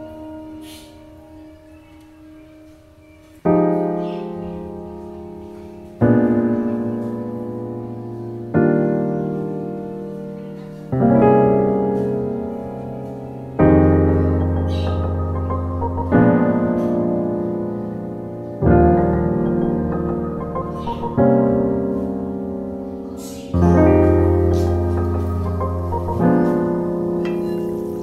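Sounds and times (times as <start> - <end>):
slow piano chords: 0.0 - 28.0.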